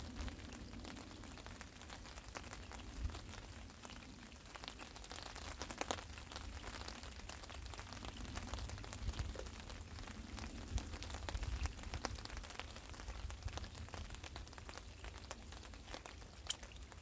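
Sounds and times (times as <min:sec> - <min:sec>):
rain falling on a tarp: 0:00.0 - 0:17.0.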